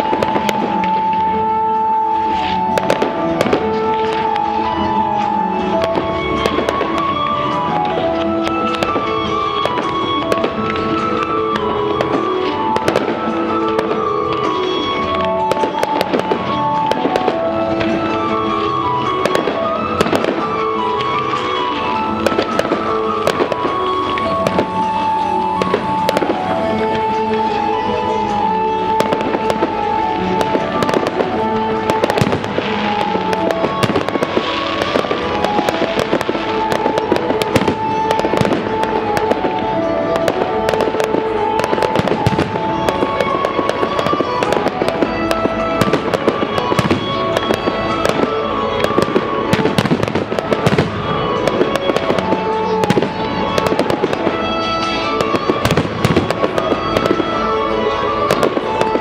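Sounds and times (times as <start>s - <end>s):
fireworks bangs and crackles: 0.0s - 59.0s
melodic music soundtrack: 0.0s - 59.0s.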